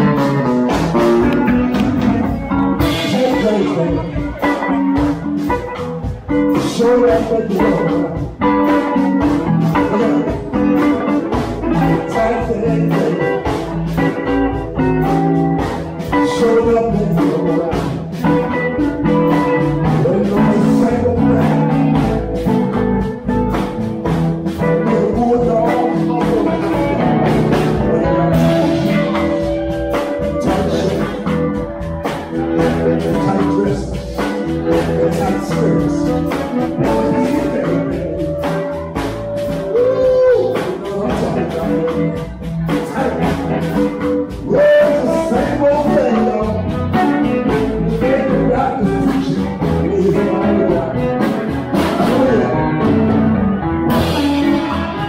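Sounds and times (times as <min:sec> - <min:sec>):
blues band playing: 0:00.0 - 0:55.0
person singing: 0:00.0 - 0:55.0.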